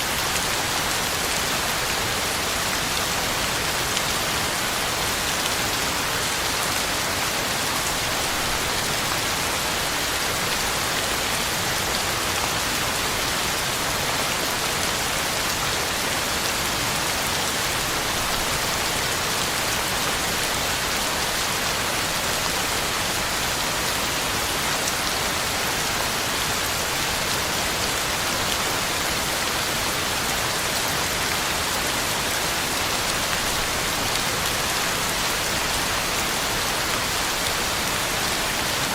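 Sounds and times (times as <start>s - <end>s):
heavy rain on ground and leaves: 0.0s - 38.9s.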